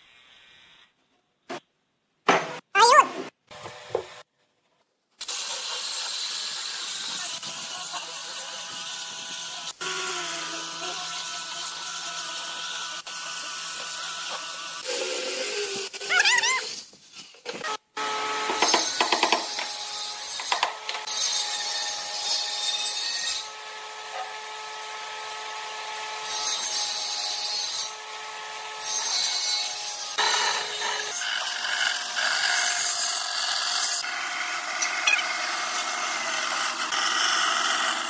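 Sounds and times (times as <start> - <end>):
angle grinder sanding wood: 5.3 - 16.9, 18.0 - 38.0.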